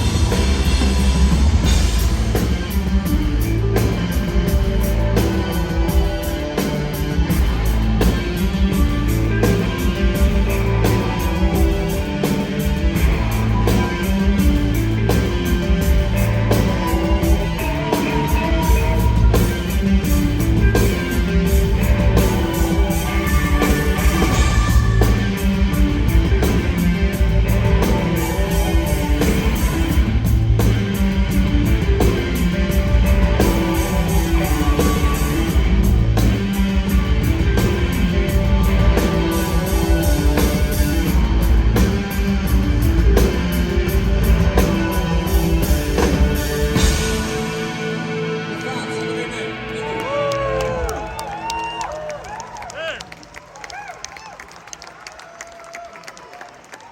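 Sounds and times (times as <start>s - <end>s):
steady drum beat: 0.0s - 47.8s
electric guitar: 0.0s - 52.1s
live rock band playing: 0.0s - 52.8s.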